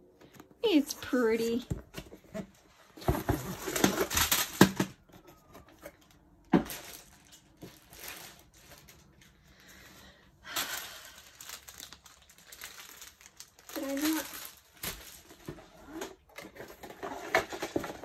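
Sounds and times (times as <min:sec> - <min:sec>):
packaging rustling and crinkling: 0:01.8 - 0:18.0.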